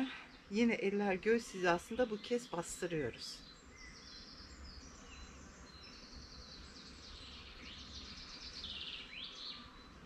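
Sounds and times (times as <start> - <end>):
birds chirping and trilling: 0.0 - 10.0.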